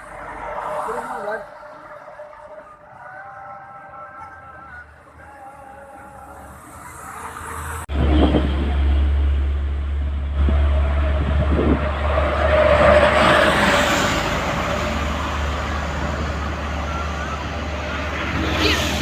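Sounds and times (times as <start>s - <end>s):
bus engine rumble: 0.0s - 19.0s
road noise: 0.0s - 19.0s.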